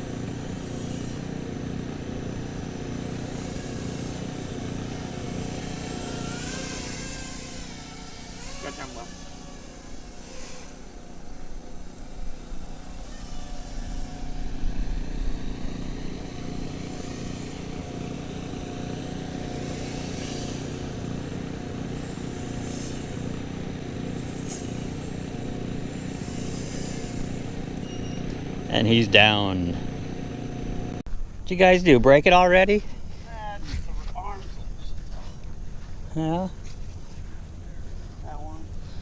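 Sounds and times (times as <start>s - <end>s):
quadcopter motors buzzing: 0.0s - 31.0s, 31.6s - 39.0s.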